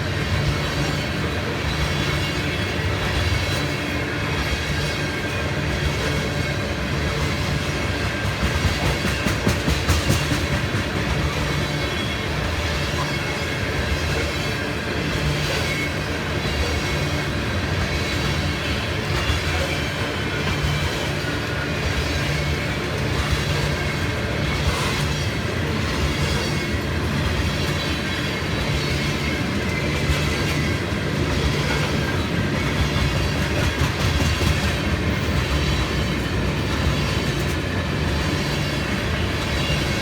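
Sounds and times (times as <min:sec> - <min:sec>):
freight train wheels rumbling and clacking: 0:00.0 - 0:40.0.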